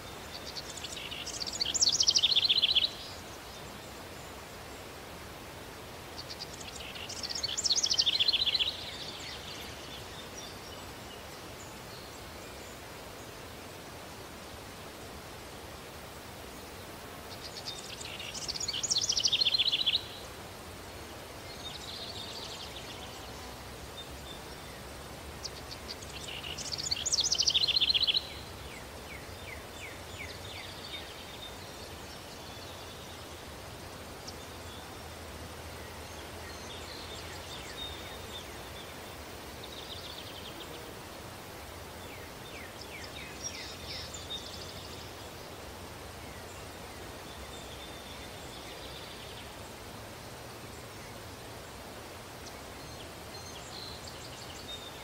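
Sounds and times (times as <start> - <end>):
birds chirping: 0.0 - 14.6, 15.3 - 55.0.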